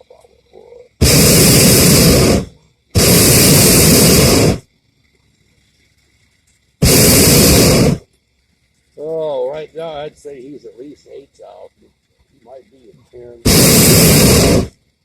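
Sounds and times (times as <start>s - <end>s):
propane burner blasts: 0.0s - 4.8s, 6.8s - 8.2s, 9.0s - 15.0s.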